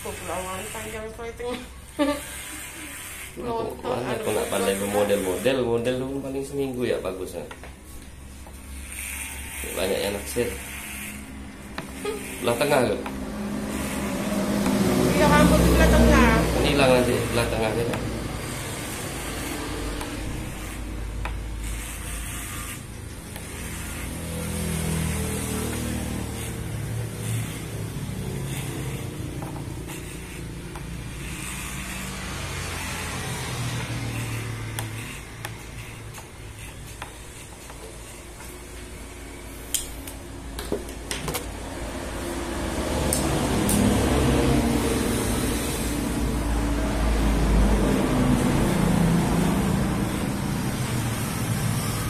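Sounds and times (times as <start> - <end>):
electric hair clippers buzzing: 0.0 - 52.0.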